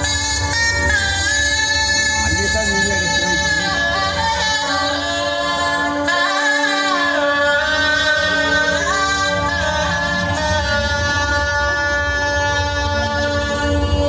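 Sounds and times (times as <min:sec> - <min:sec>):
amplified person singing: 0:00.0 - 0:14.0
sustained instrumental accompaniment: 0:00.0 - 0:14.0.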